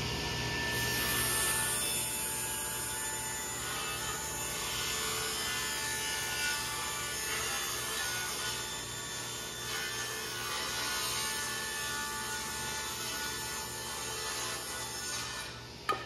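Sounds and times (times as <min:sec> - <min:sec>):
table saw cutting wood: 0:00.0 - 0:16.0.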